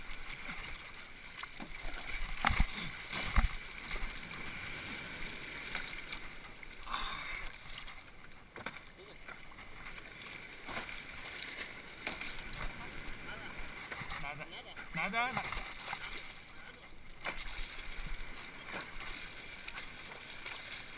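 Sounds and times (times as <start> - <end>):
water sloshing against a board: 0.0 - 20.9.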